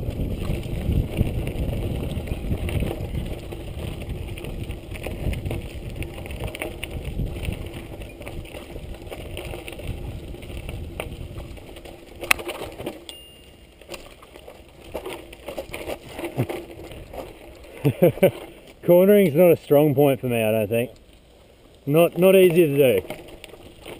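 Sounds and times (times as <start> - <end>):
bike rattling: 0.0 - 23.9
bike tyres crunching over dirt: 0.0 - 23.9.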